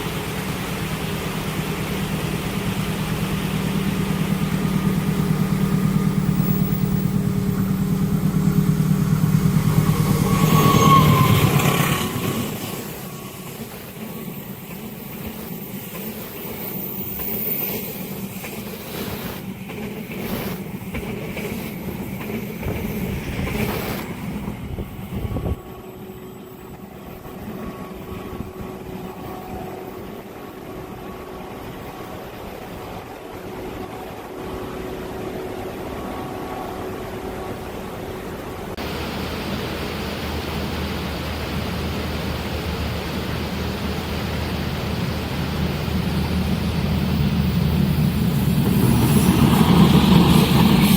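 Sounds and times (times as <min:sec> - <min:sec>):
diesel locomotive engine: 0:00.0 - 0:50.9.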